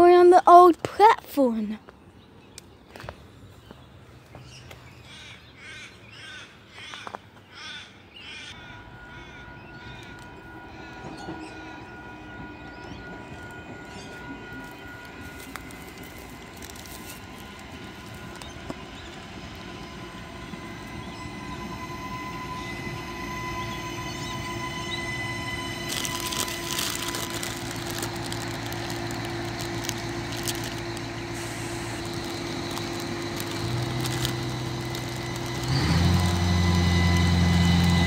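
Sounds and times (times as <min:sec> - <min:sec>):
diesel railcar approaching: 0:00.0 - 0:38.0
train wheels on rails: 0:06.6 - 0:38.0.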